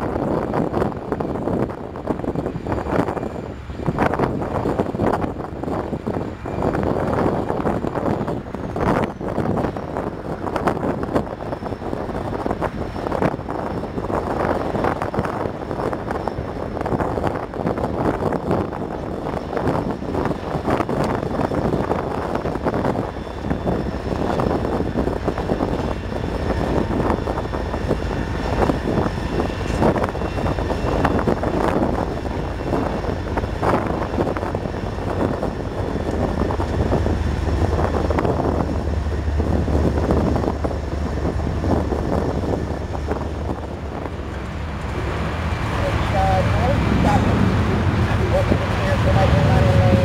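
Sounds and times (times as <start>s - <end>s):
diesel locomotive engines: 0.0s - 50.0s
train wheels rumbling on rails: 0.0s - 50.0s.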